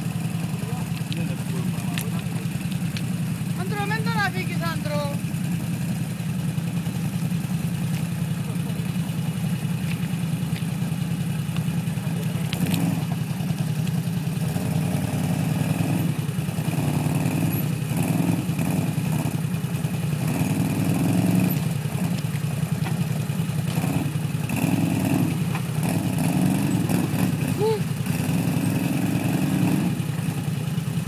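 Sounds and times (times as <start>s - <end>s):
atv engine under load: 0.0s - 31.0s.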